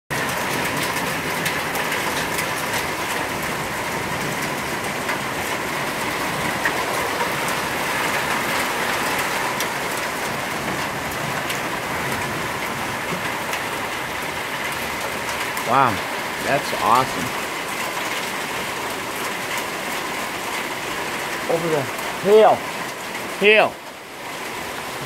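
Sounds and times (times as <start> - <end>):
hailstones ticking: 0.1 - 25.0
rain hissing on patio: 0.1 - 25.0.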